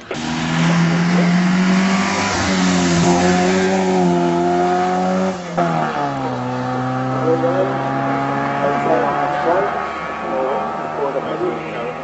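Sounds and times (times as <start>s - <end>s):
sports car engine at high revs: 0.0s - 12.0s.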